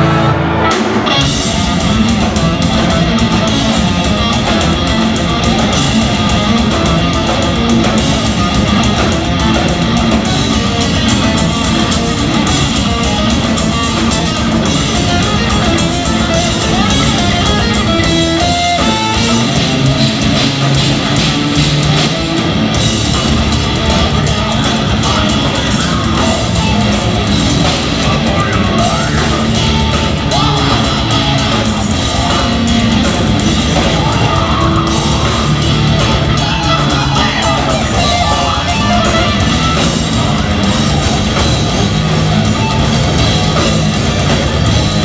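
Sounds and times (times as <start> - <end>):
metal band playing live: 0.0 - 45.0.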